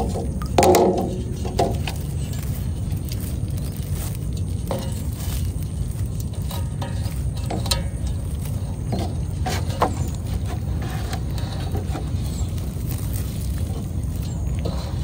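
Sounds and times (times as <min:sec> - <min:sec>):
nylon mesh rustling: 0:00.0 - 0:15.0
steady low rumble: 0:00.0 - 0:15.0.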